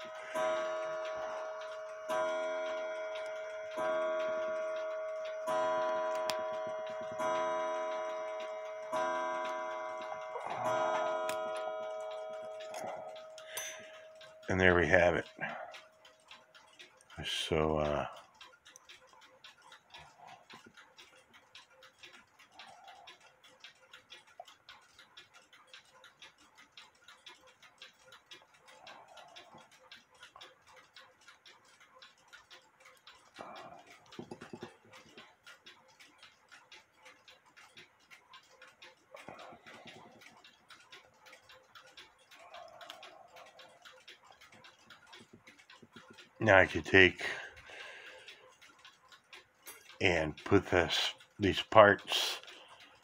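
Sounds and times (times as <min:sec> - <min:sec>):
handling noise of clock parts: 0:00.0 - 0:53.0
mechanical clock ticking: 0:00.0 - 0:53.0.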